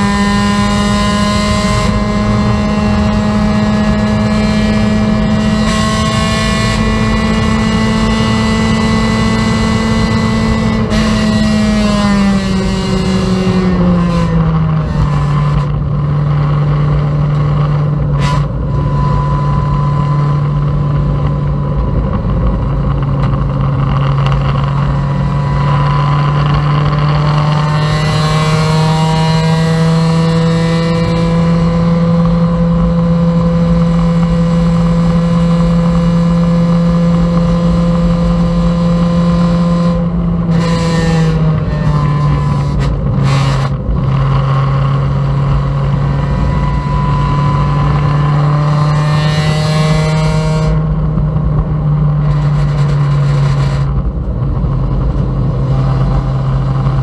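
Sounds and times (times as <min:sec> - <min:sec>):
race car engine at high revs: 0:00.0 - 0:57.0
wind and road noise: 0:00.0 - 0:57.0.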